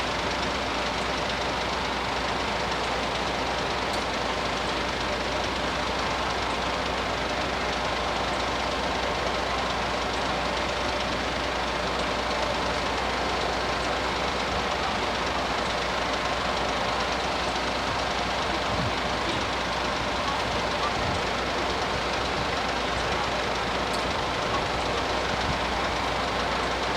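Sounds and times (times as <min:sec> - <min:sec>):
diesel railcar passing: 0:00.0 - 0:26.9.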